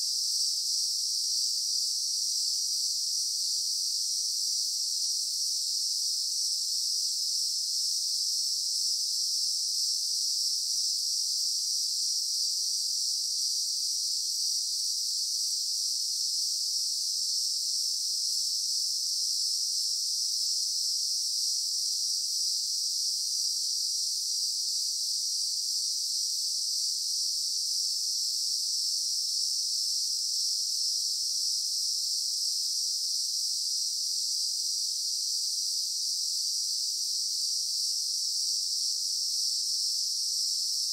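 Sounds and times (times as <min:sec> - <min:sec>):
high-pitched insect chorus: 0:00.5 - 0:07.3, 0:13.2 - 0:40.9.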